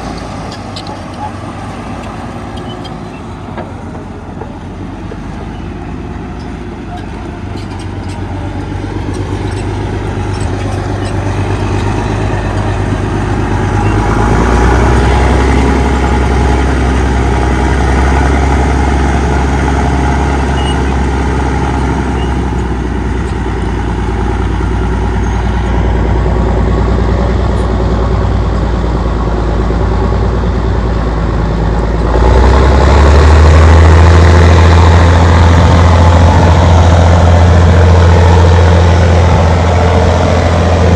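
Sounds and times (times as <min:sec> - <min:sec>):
dozer diesel engine drone: 0:00.0 - 0:40.9.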